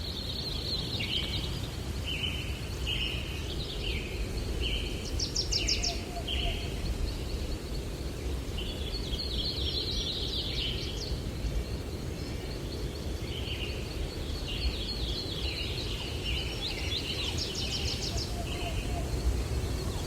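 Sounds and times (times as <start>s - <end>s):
low rumble of breeze: 0.0s - 20.0s
songbirds chirping trills: 0.0s - 20.0s.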